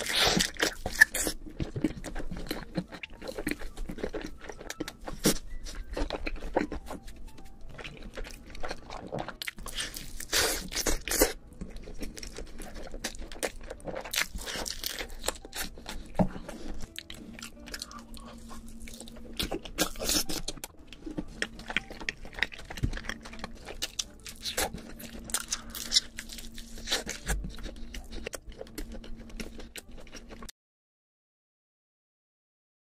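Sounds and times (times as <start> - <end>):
crunching fried chicken: 0.0 - 7.0, 7.7 - 30.5
wet chewing: 0.0 - 30.5.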